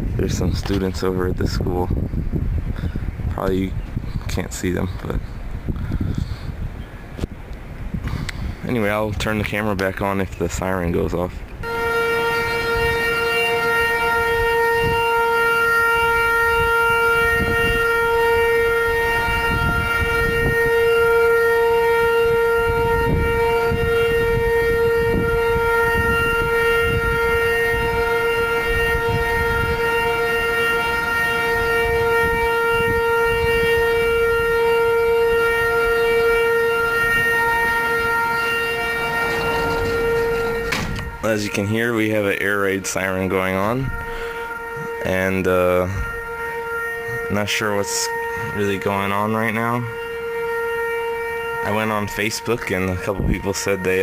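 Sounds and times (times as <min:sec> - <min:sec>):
air raid siren steady tone: 0:00.0 - 0:54.0.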